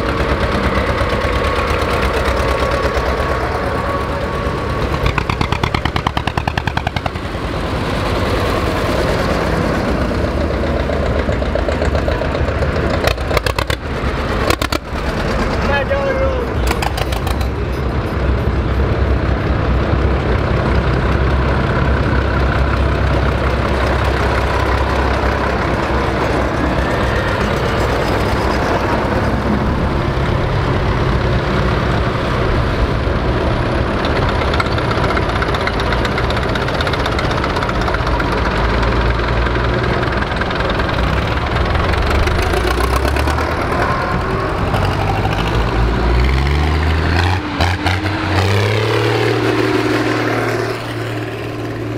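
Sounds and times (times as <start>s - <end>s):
tractor engines running: 0.0s - 51.9s.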